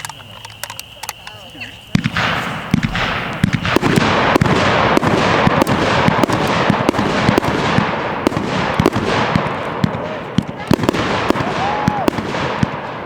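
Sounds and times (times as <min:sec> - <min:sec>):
firework hiss and crackle: 0:00.0 - 0:13.0
fireworks bangs: 0:00.0 - 0:13.0.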